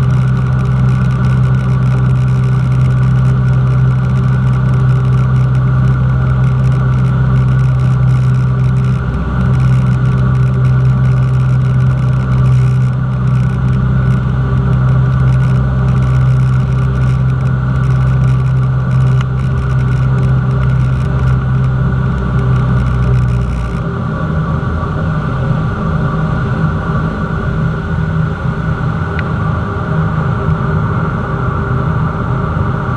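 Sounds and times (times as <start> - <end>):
light aircraft engine droning: 0.0 - 32.9.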